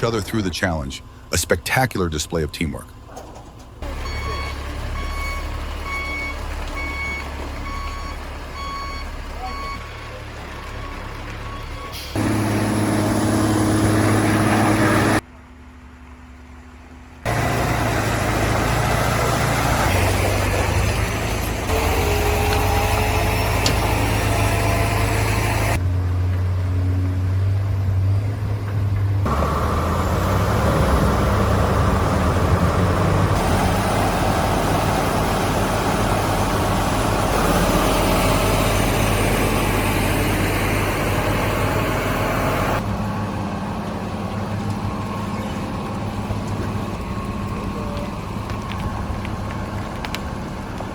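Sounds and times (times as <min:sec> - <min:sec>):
heavy truck engines humming: 0:00.0 - 0:50.9.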